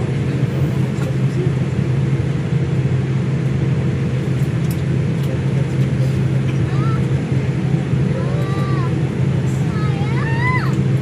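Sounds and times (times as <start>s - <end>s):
airliner cabin drone: 0.0s - 11.0s.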